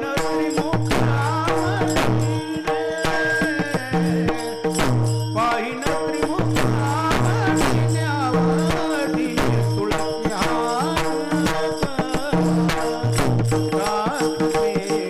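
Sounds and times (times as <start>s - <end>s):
devotional singing melody: 0.0s - 15.0s
drum strokes: 0.0s - 15.0s
small hand cymbals: 0.0s - 15.0s.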